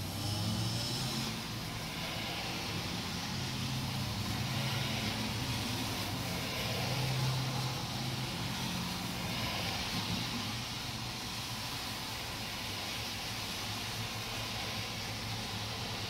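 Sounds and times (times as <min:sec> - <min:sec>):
heavy rain on road: 0:00.0 - 0:16.0
traffic engine hum: 0:00.0 - 0:16.0
tyres swishing through water: 0:00.0 - 0:16.0.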